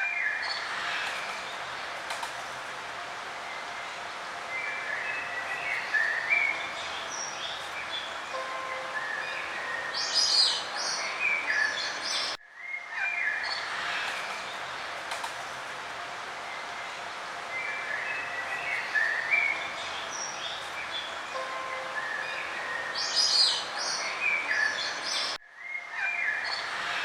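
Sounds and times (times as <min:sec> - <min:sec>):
songbirds singing and chirping: 0:00.0 - 0:27.0
steady background hiss: 0:00.0 - 0:27.0.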